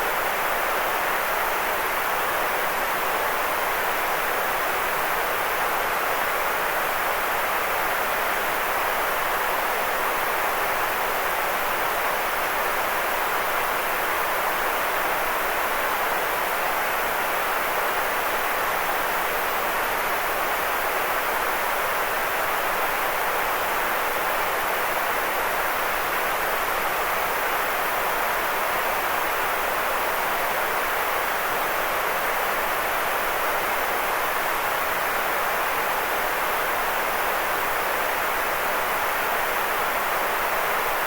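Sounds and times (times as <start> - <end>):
steady white noise hiss: 0.0 - 41.0.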